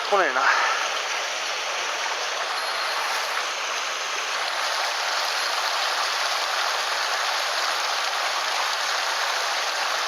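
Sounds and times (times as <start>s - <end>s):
stream water rushing over rocks: 0.0s - 10.0s.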